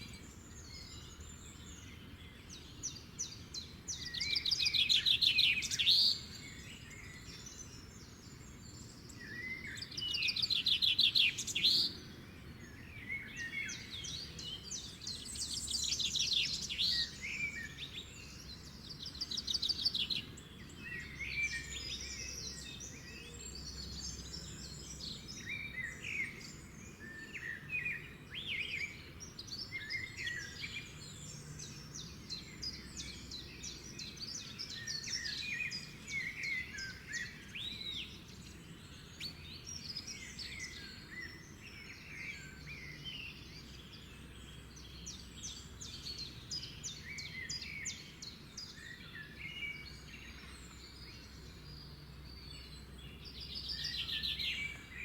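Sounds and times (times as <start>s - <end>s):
faint background noise: 0.0s - 55.0s
rapid trilled bird song: 0.0s - 55.0s
songbirds singing and chirping: 0.0s - 55.0s.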